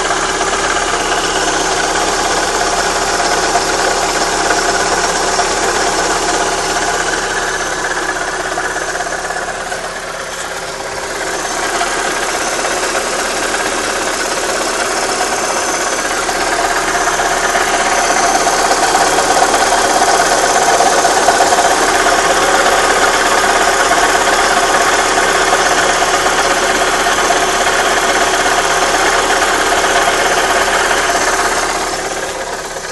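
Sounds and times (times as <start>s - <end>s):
car engine running steadily: 0.0s - 32.9s.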